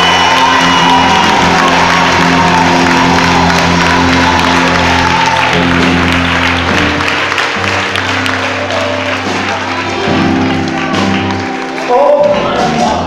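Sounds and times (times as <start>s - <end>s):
congregation clapping: 0.0s - 13.0s
live church band music: 0.0s - 13.0s.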